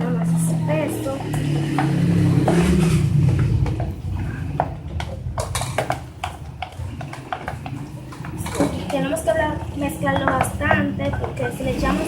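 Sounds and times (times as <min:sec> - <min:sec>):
utensil stirring sticky slime: 0:00.0 - 0:12.0.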